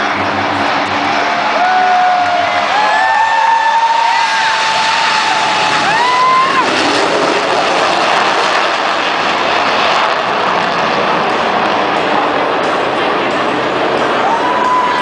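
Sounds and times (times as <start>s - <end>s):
jet engine roar: 0.0s - 15.0s
rising jet whine: 0.0s - 15.0s.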